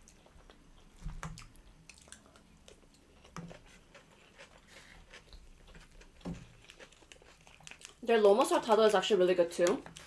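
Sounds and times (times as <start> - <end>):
people chewing quietly: 0.0 - 9.1.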